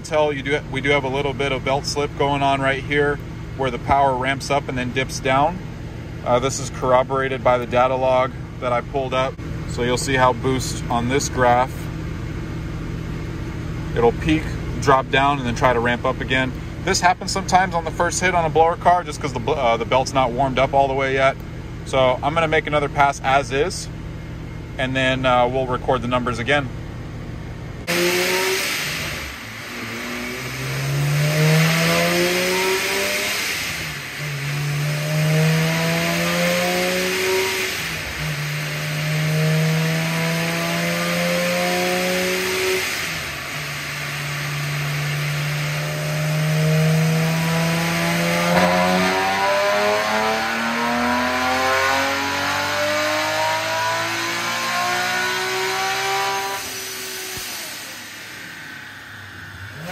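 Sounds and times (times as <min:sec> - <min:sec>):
supercharged engine revving: 0:00.0 - 0:23.9, 0:24.7 - 0:59.9.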